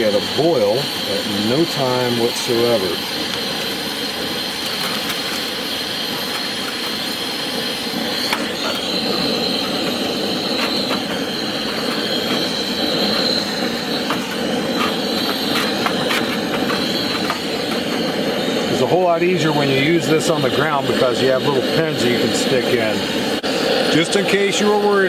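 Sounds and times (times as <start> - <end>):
gas burner hissing: 0.0 - 25.0.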